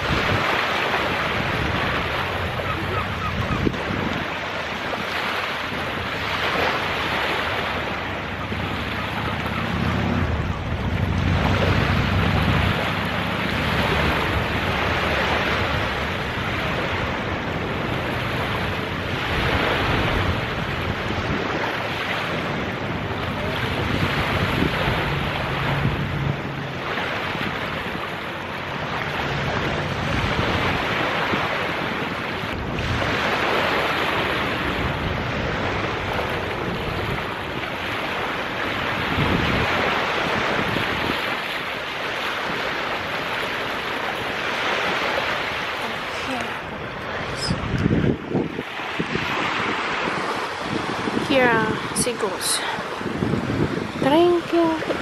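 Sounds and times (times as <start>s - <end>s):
small waves washing on sand: 0.0s - 55.0s
wind buffeting microphone: 0.0s - 55.0s.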